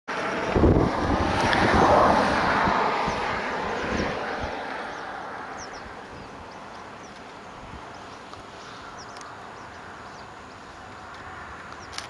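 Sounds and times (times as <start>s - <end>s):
passing vehicle rumble: 0.1s - 12.0s.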